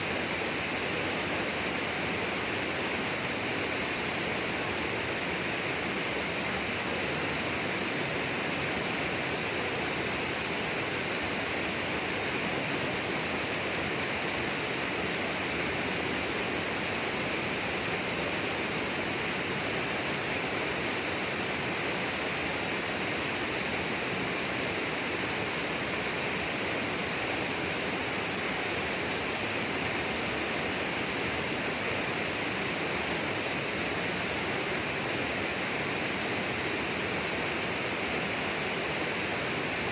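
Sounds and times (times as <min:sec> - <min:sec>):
rainforest ambience rush: 0:00.0 - 0:39.9.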